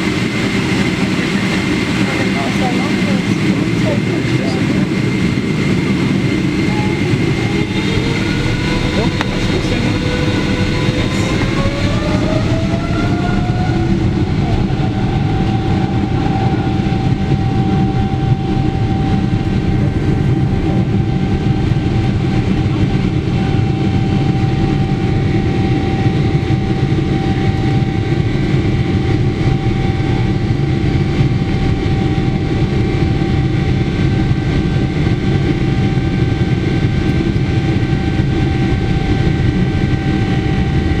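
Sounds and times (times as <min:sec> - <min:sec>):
airliner rolling rumble: 0:00.0 - 0:41.0
jet engines whining: 0:00.0 - 0:41.0.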